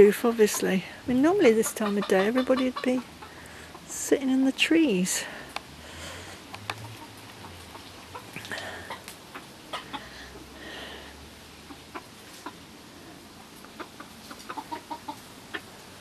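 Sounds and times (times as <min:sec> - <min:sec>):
chickens clucking: 0:00.0 - 0:04.2, 0:05.1 - 0:10.5, 0:11.6 - 0:16.0.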